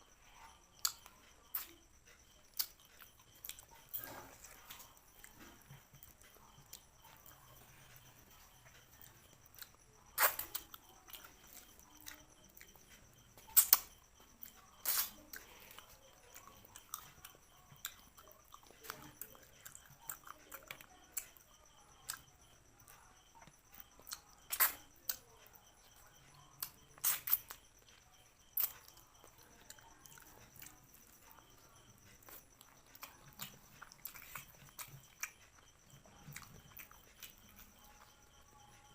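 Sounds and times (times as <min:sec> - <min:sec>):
chewing: 0:00.1 - 0:38.9.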